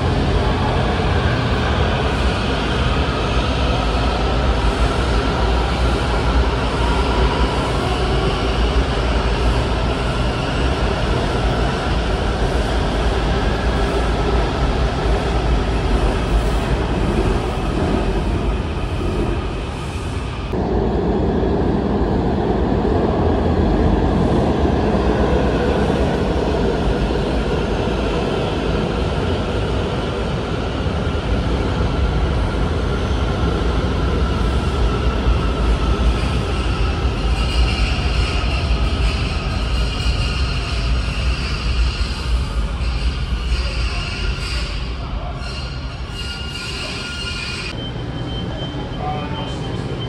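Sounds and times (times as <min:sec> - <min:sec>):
train rumbling on rails: 0:00.0 - 0:50.0.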